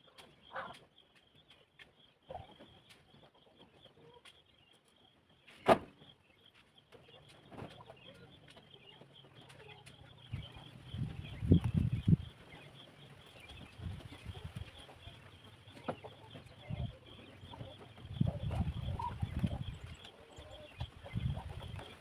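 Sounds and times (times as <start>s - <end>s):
hens clucking: 0.0s - 5.1s, 6.5s - 22.0s.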